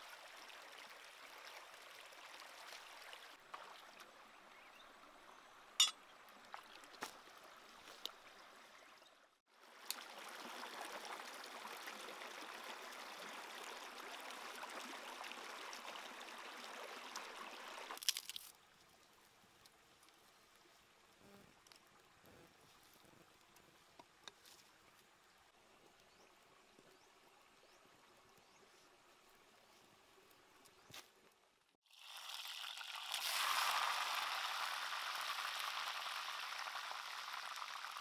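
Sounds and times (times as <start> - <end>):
stream running over rocks: 0.0 - 30.9, 31.8 - 38.0.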